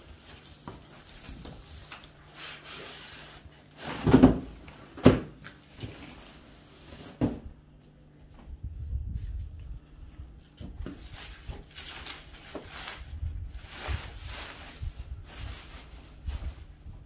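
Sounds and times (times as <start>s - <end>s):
plastic rustling: 0.0s - 7.2s, 10.5s - 17.0s.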